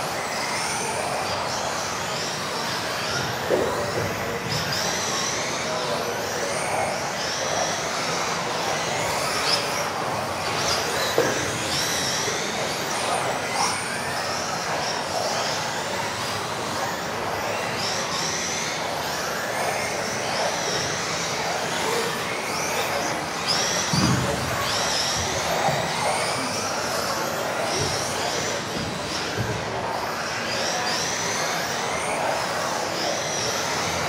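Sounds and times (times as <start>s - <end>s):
rc car motors whining: 0.0s - 34.0s.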